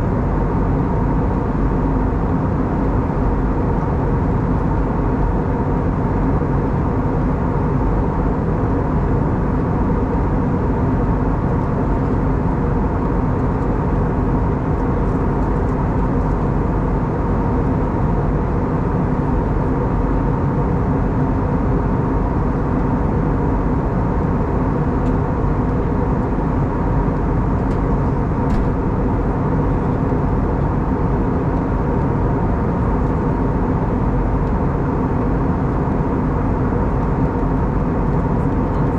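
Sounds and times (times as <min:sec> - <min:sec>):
airplane cabin noise: 0:00.0 - 0:38.9
low constant hums: 0:00.0 - 0:38.9.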